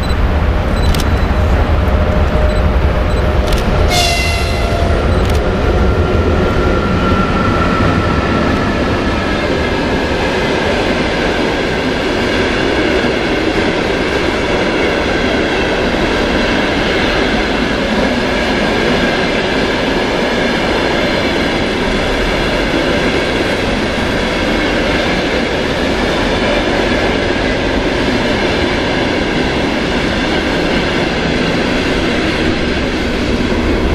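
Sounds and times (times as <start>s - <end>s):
train wheels rumbling on rails: 0.0s - 33.9s.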